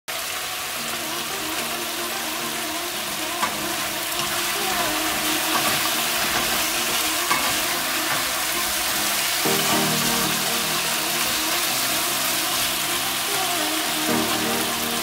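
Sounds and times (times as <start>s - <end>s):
chicken wings sizzling in a pan: 0.1s - 15.0s.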